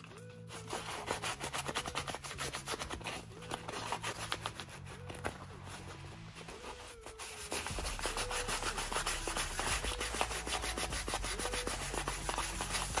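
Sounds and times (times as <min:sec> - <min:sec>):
metal scraping on wet sandpaper: 0:00.5 - 0:05.1, 0:05.9 - 0:13.0.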